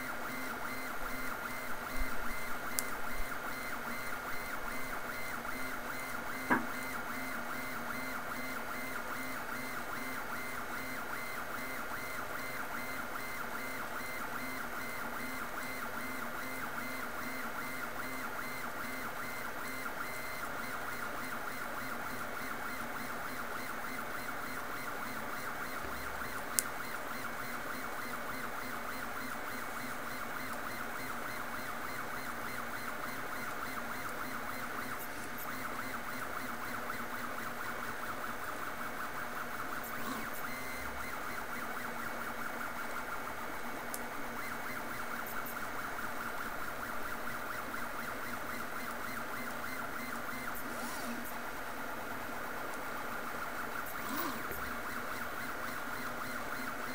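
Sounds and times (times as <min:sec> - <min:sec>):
printer motors whining: 0:00.0 - 0:56.9.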